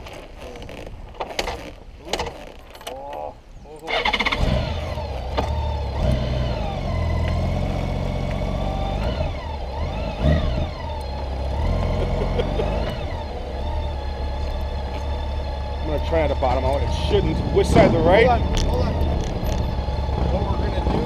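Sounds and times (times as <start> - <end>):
motorcycle engine running: 4.0 - 21.0.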